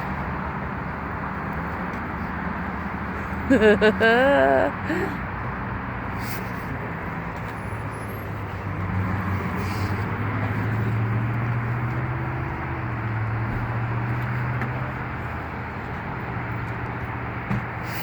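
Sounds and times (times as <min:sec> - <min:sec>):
road noise: 0:00.0 - 0:18.0
vehicle engine humming: 0:00.0 - 0:18.0.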